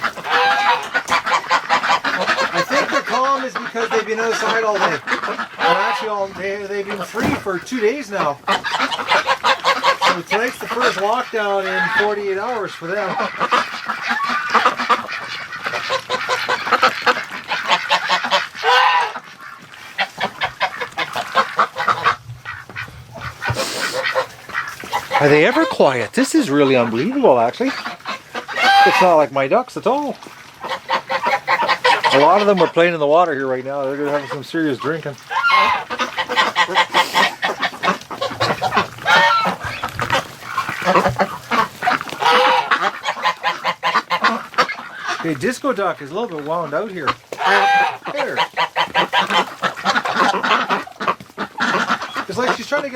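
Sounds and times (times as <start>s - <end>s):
ducks quacking: 0.0s - 52.9s
geese honking: 0.0s - 52.9s.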